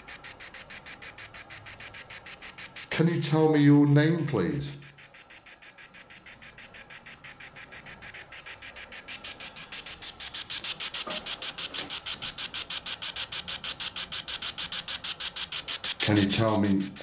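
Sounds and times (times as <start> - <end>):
pulsing static hiss from phone: 0.0 - 17.0.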